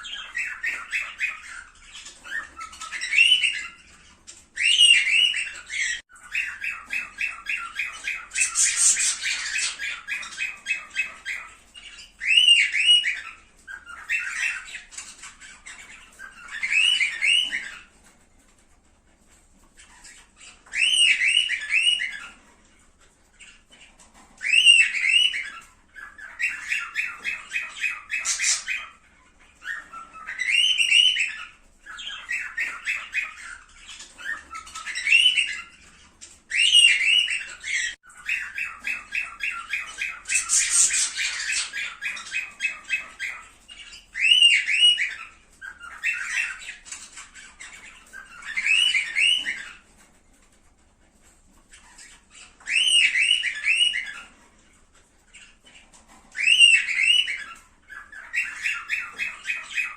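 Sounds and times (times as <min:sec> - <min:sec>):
cockatiels whistling calls: 0:00.0 - 0:18.2, 0:19.6 - 0:50.2, 0:51.6 - 0:59.9
cockatiels chattering: 0:00.0 - 0:59.9.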